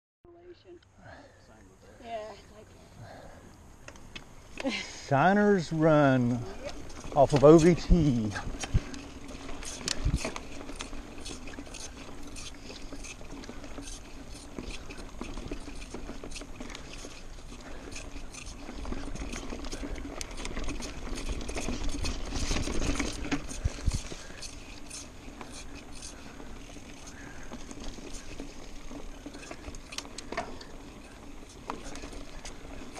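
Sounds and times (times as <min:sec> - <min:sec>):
bike tyres on dirt trail: 0:01.0 - 0:32.9
bike rattling and clicking: 0:05.4 - 0:32.9.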